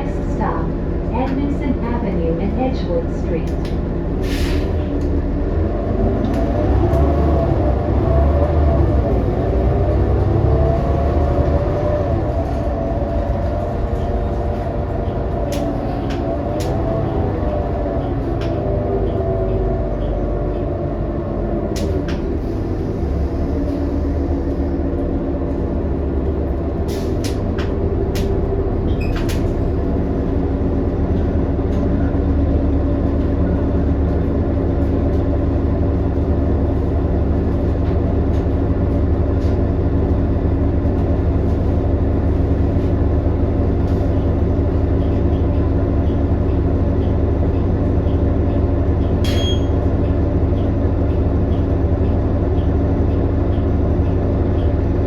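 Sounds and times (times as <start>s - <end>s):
bus drivetrain rumble: 0.0s - 55.0s.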